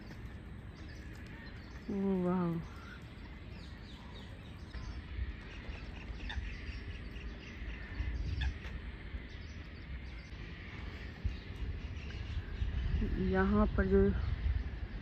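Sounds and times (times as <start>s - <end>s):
low rumble: 0.0s - 15.0s
wetland birds chirping: 0.0s - 15.0s.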